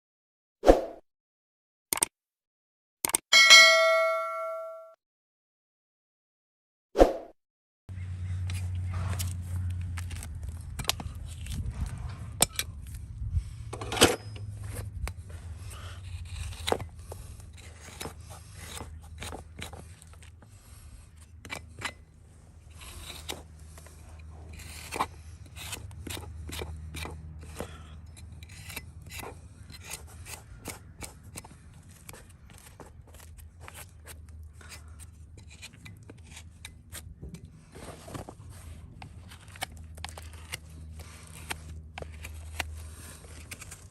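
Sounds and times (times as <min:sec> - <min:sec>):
hoof trimming snips and scrapes: 0:08.0 - 0:43.9.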